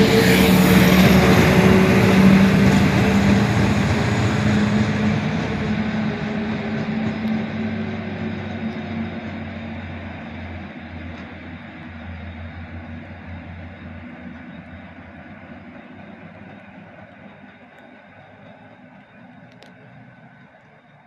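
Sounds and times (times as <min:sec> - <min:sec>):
diesel locomotive engines humming: 0:00.0 - 0:21.0.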